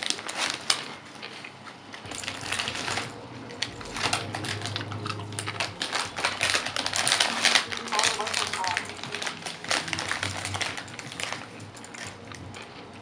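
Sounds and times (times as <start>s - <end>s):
chip bag crinkling: 0.0s - 13.0s.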